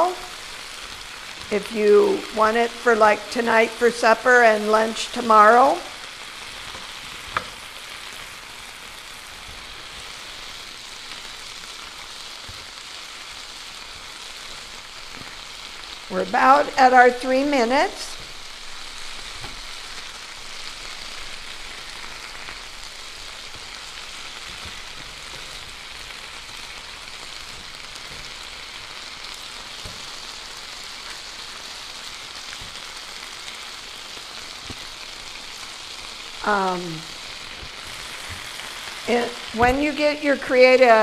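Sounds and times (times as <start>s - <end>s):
stir fry sizzling: 0.0s - 41.0s.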